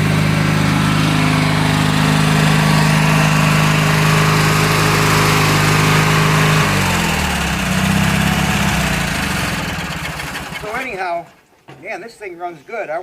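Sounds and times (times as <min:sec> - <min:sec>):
garden tractor engine running: 0:00.0 - 0:11.4.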